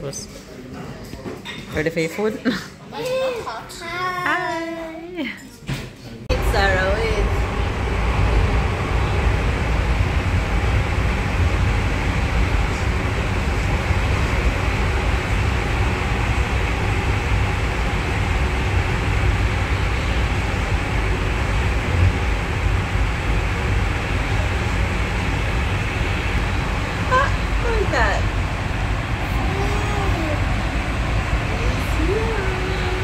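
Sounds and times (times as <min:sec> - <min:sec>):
metro train rumbling: 0:06.3 - 0:33.0.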